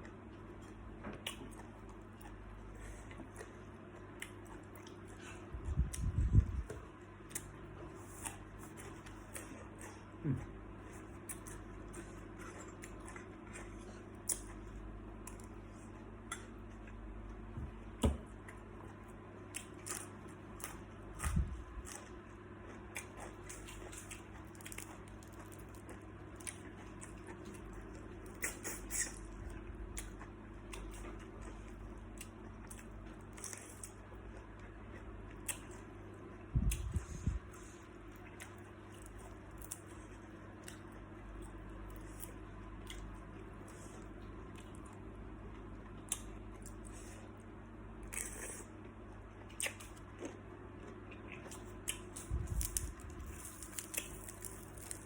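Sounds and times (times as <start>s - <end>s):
steady low hum: 0.0s - 55.0s
person chewing shrimp: 0.6s - 17.4s, 18.4s - 55.0s.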